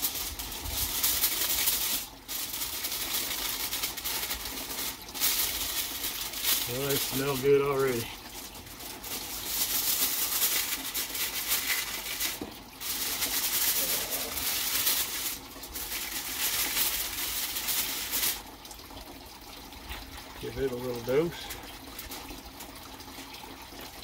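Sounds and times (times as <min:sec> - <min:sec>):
aluminium foil crinkling: 0:00.0 - 0:18.6, 0:20.6 - 0:22.9.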